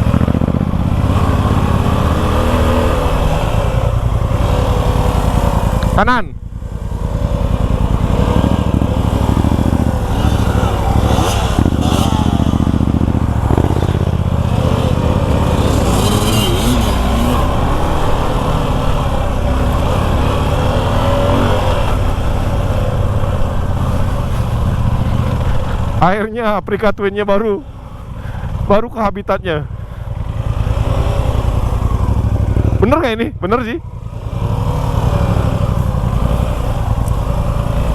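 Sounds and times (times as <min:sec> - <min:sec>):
motorcycle engine revving: 0:00.0 - 0:26.2, 0:29.6 - 0:37.9.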